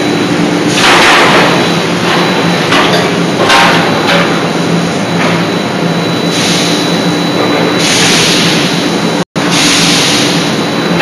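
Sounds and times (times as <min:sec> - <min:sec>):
machinery hum and hiss: 0:00.0 - 0:11.0.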